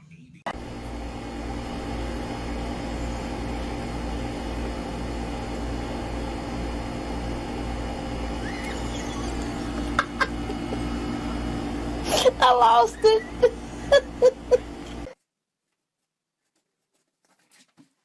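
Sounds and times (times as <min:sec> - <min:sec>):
mechanical hum with drone: 0:00.4 - 0:15.2.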